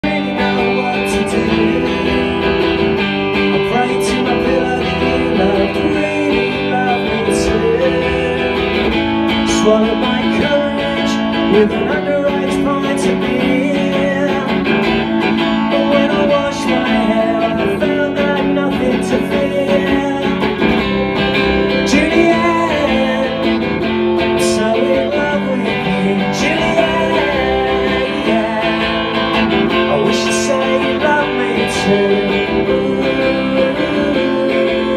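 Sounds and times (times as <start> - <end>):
man singing: 0.0 - 21.1, 21.7 - 34.9
electric guitar strumming: 0.0 - 34.9.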